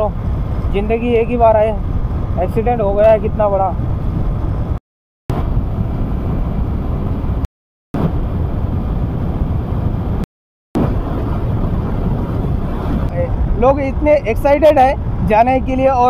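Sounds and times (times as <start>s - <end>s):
motorcycle road noise rumble: 0.0s - 10.2s, 10.8s - 16.0s
wind buffeting microphone: 0.0s - 10.2s, 10.8s - 16.0s.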